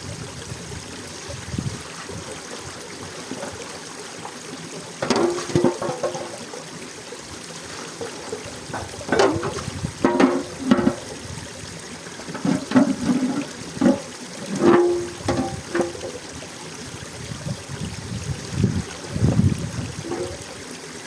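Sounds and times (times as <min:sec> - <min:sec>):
trickle of running water: 0:00.0 - 0:21.0
water splashing and gurgling: 0:00.0 - 0:21.0.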